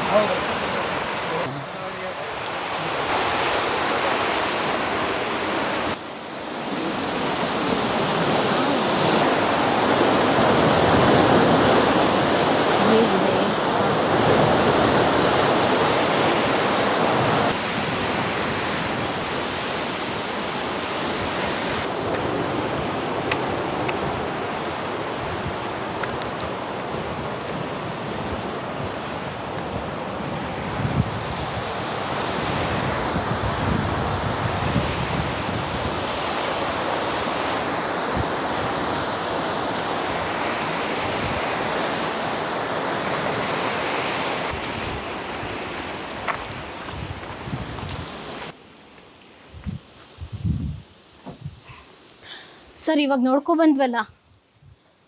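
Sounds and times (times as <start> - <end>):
rushing water: 0.0 - 49.5.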